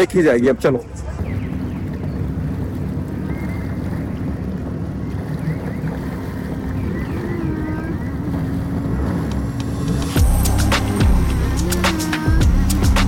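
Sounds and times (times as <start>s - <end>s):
jet ski engine drone: 0.0s - 13.0s
water rushing: 0.0s - 13.0s
wind: 0.0s - 13.0s.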